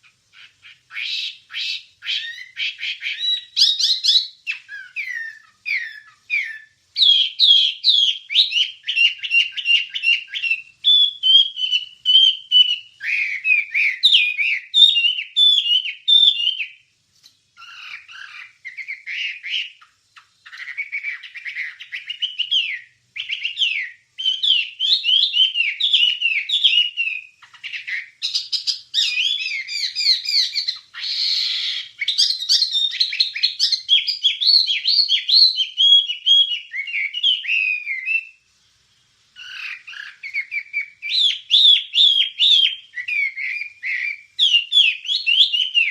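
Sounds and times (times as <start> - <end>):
songbird singing whistled chirps: 0.0 - 45.9.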